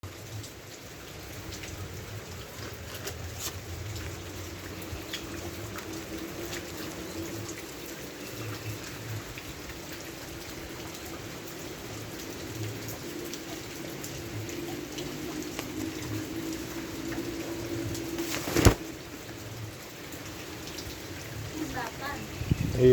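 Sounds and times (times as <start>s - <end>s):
raindrops splashing on hard surface: 0.0s - 22.9s
rain hissing: 0.1s - 22.9s.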